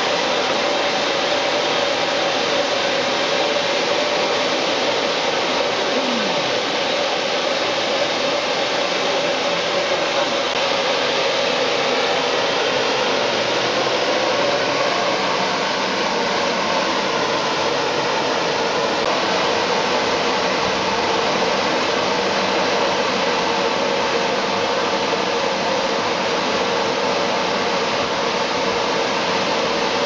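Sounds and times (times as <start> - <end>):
steam locomotive blowing off steam: 0.0 - 30.0.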